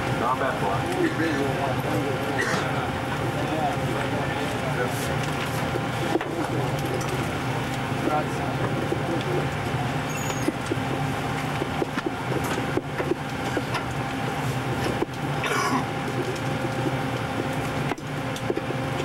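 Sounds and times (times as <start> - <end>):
machinery and ventilation hum: 0.0 - 19.0.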